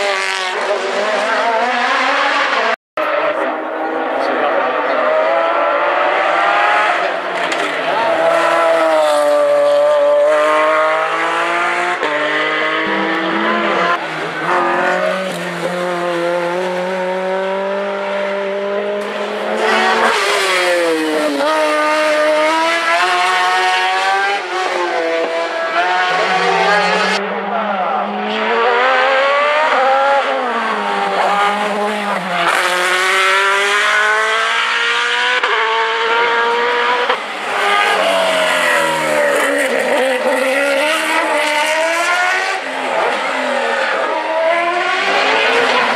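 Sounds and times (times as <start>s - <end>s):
race car engines passing: 0.0s - 45.9s.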